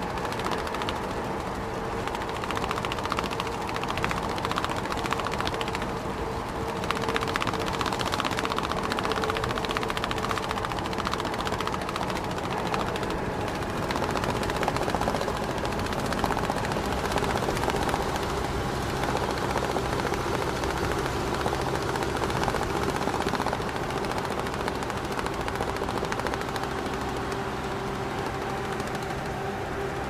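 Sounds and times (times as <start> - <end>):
cargo straps flapping in wind: 0.0 - 30.0
truck engine drone: 0.0 - 30.0.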